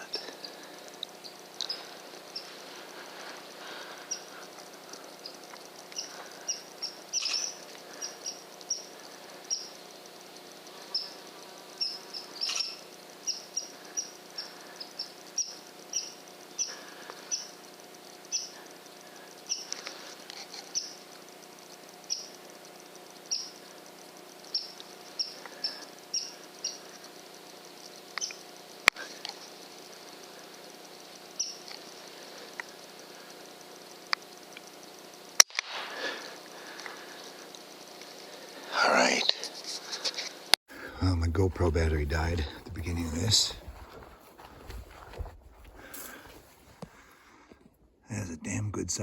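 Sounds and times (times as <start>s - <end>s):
faint outdoor background: 0.0s - 49.0s.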